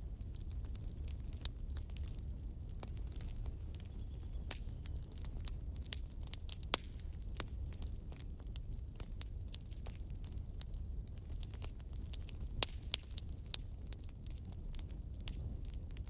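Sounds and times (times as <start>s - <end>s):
campfire crackling and popping: 0.0s - 16.0s
low rumble of burning: 0.0s - 16.0s.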